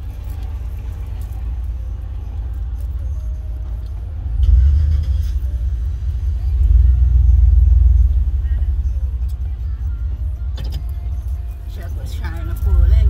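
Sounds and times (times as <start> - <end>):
vehicle rumble inside cabin: 0.0 - 13.0.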